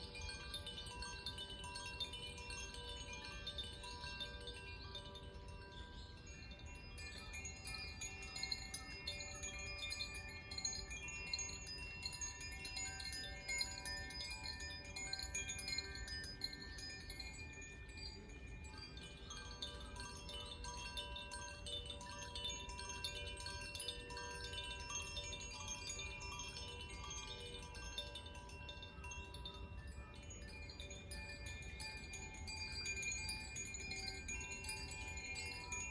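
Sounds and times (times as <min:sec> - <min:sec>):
wind chimes ringing: 0:00.0 - 0:35.9.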